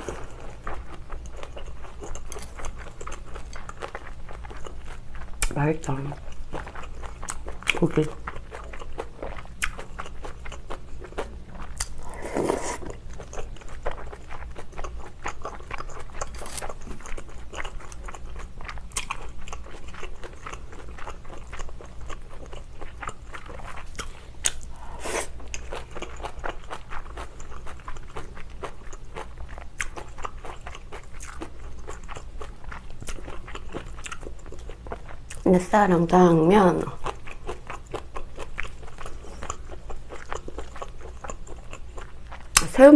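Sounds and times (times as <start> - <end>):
crunchy chewing and biting: 0.0 - 35.5, 37.0 - 42.7.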